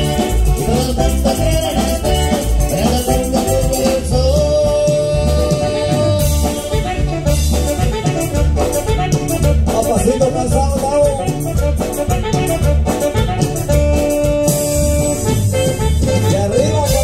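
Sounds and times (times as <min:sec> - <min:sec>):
upbeat latin music with singing: 0:00.0 - 0:17.0.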